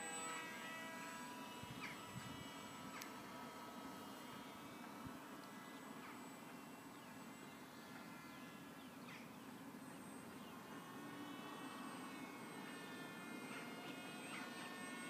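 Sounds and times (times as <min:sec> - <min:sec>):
model aircraft motor whine: 0:00.0 - 0:15.0.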